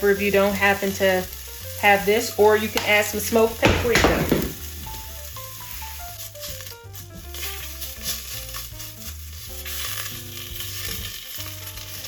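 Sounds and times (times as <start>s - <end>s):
food sizzling in a pan: 0.0s - 3.6s, 4.6s - 12.0s.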